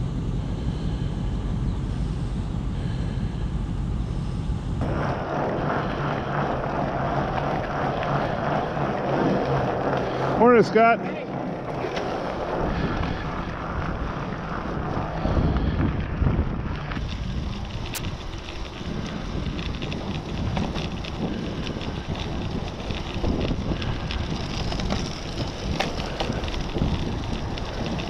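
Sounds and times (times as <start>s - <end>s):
steady crackle: 0.0s - 28.0s
tyres rumbling on road: 0.0s - 28.0s
wind rushing over microphone: 0.0s - 28.0s.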